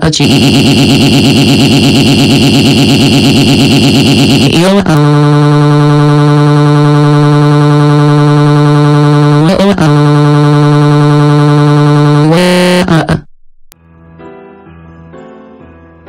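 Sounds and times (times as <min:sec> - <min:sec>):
distorted electronic crying wail: 0:00.0 - 0:13.2.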